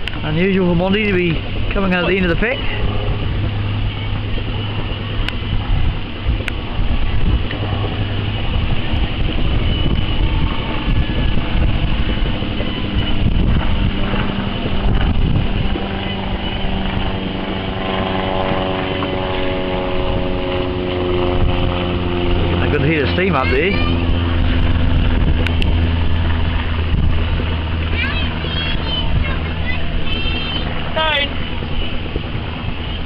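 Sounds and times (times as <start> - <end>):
motorboat engine running: 0.0 - 33.0
wind rumbling on microphone: 0.0 - 33.0.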